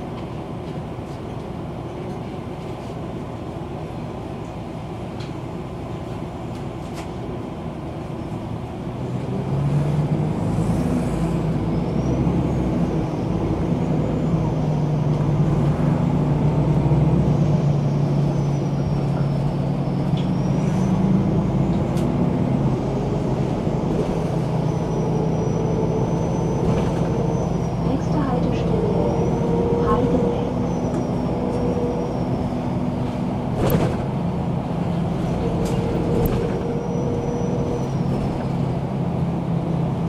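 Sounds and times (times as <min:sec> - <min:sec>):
bus diesel engine droning: 0:00.0 - 0:40.0.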